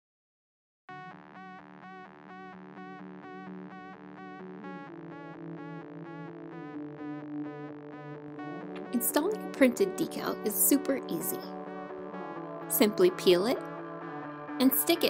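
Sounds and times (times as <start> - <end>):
low synth chords: 1.3 - 15.0.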